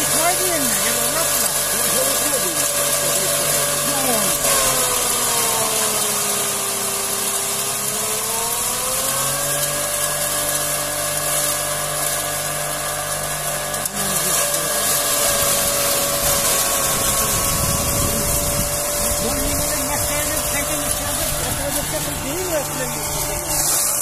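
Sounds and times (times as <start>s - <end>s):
grain crusher motor whine: 0.0s - 24.0s
straw shredding rushing noise: 0.0s - 24.0s.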